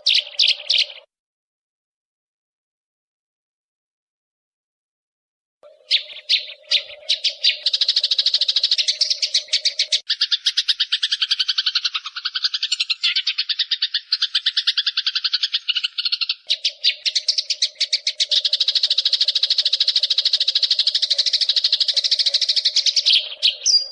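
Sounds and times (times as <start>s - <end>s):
sparrows chirping: 0.0s - 1.1s, 5.6s - 23.9s.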